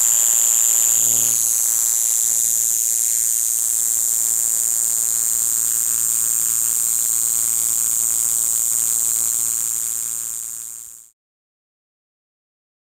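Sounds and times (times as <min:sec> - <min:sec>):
katydid high-pitched buzz: 0:00.0 - 0:11.0.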